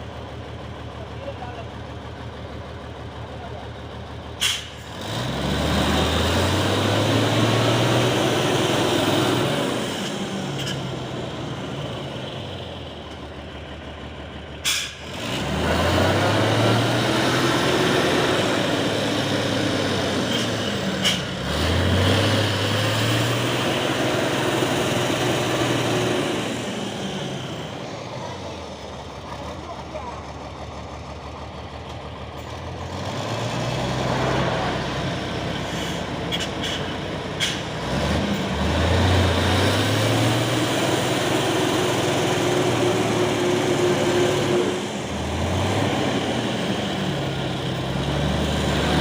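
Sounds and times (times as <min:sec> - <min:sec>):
diesel truck engine revving: 0:00.0 - 0:49.0.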